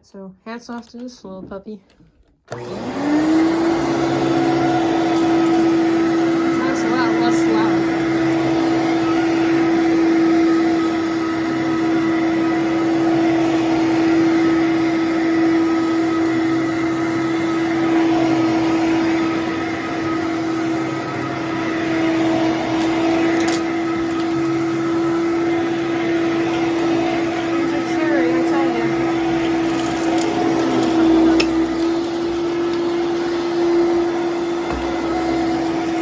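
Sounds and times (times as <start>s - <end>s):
vacuum cleaner running: 2.5s - 36.0s.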